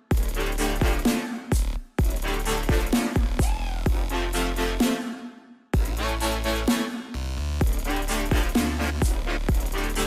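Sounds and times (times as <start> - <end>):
dubstep music with heavy bass: 0.0 - 10.0.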